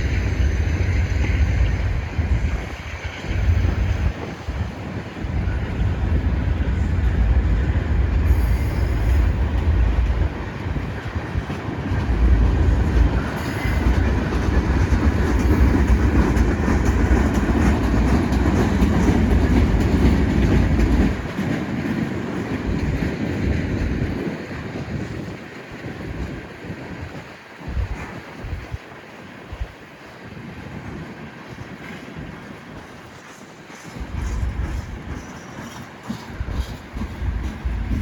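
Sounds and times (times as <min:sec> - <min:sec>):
freight train wheel clatter: 0:00.0 - 0:38.0
wind buffeting microphone: 0:00.0 - 0:38.0.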